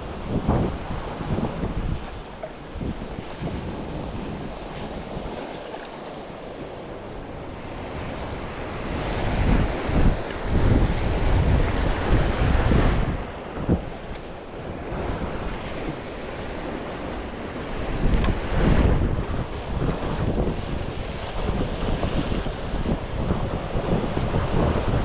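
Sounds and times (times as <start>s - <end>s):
sea surf: 0.0s - 25.0s
wind gusting over microphone: 0.0s - 25.0s.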